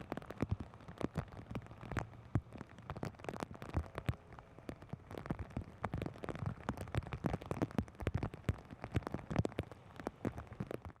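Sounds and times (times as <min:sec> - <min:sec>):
rain on hard surface: 0:00.0 - 0:11.0.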